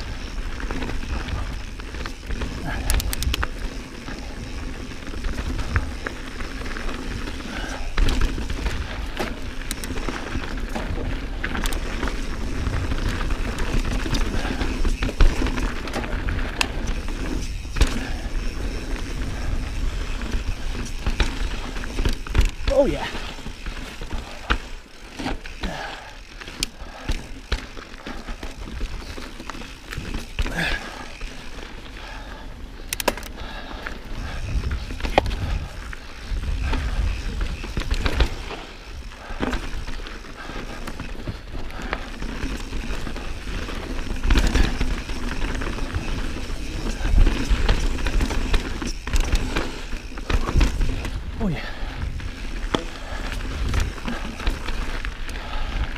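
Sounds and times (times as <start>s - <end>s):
bike clicks and rattles: 0.0s - 55.9s
bike tyres rolling over dirt: 0.0s - 55.9s.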